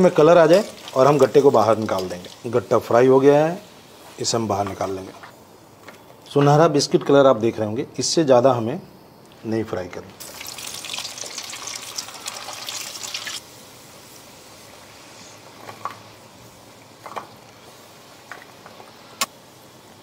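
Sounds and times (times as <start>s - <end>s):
frying in hot oil crackling: 0.0s - 5.4s, 9.4s - 20.0s.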